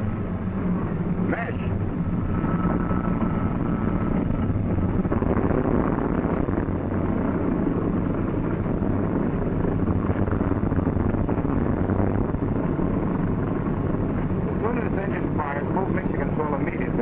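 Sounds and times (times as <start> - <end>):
radial engine starting and running: 0.0 - 17.0.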